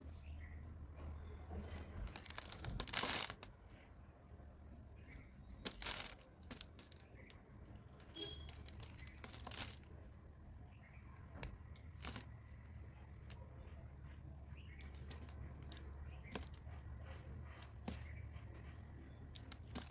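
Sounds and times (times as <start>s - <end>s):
small crackles and clicks: 1.5s - 4.0s, 5.0s - 10.0s, 10.8s - 19.9s.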